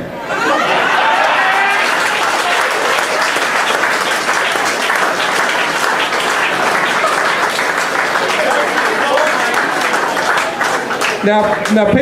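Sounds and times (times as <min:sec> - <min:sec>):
audience applauding and cheering: 0:00.4 - 0:12.0
scattered voices: 0:02.1 - 0:11.8.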